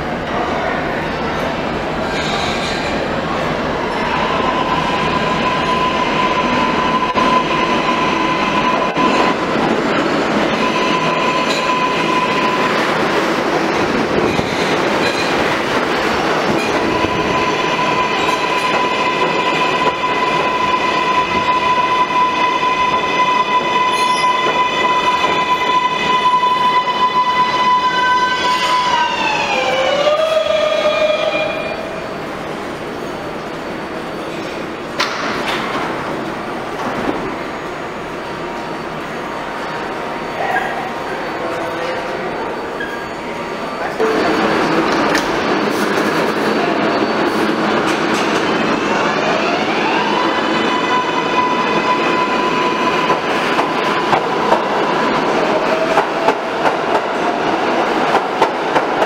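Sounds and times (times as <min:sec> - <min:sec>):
subway train braking: 0:00.0 - 0:59.0.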